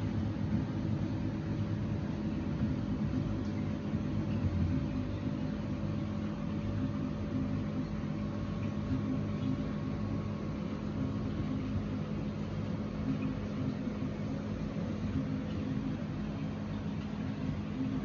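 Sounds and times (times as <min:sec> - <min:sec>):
aquarium pump humming: 0:00.0 - 0:18.0.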